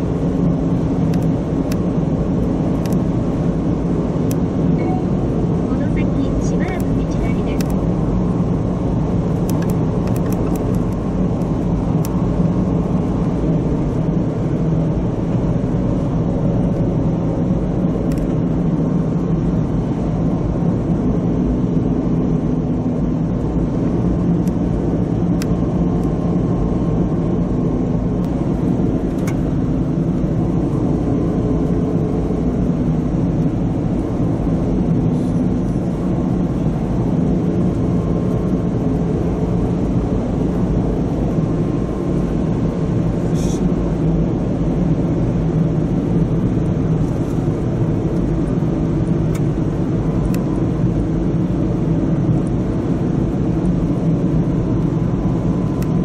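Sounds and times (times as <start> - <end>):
car cabin road and engine drone: 0.0 - 56.0.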